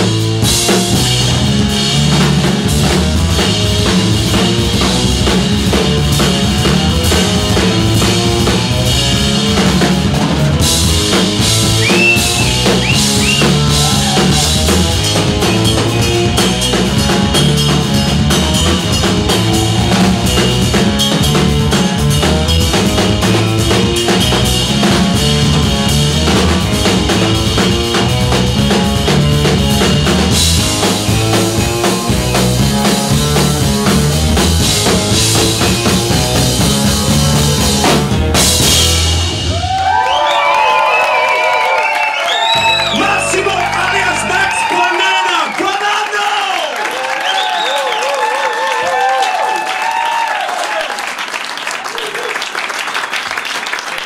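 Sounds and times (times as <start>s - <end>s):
electric guitar: 0.0s - 44.7s
drum kit beat: 0.0s - 46.4s.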